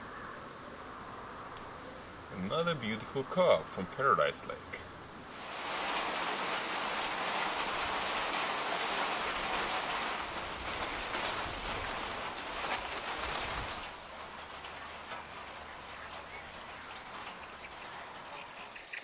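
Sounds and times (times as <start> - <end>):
rain falling on lake: 1.6 - 19.0.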